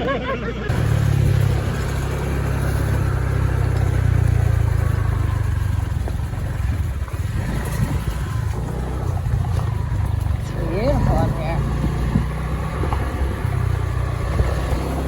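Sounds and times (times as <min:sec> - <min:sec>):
road and wind noise: 0:00.0 - 0:15.0
motorbike engine running: 0:00.2 - 0:15.0.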